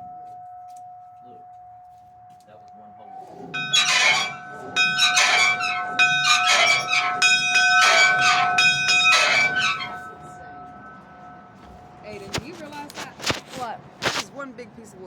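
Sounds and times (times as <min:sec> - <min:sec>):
locomotive bell ringing: 0:00.0 - 0:13.0.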